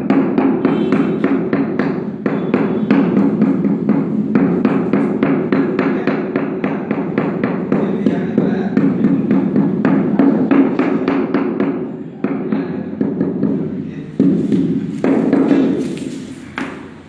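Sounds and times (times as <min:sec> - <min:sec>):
mallet knocking on tile: 0:00.0 - 0:17.0.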